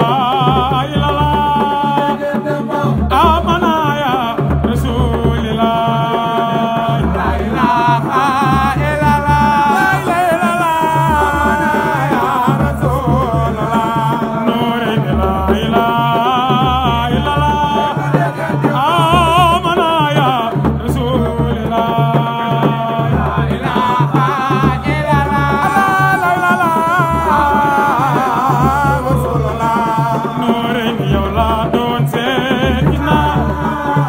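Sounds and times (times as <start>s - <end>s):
person singing ornamented melody: 0.0s - 34.0s.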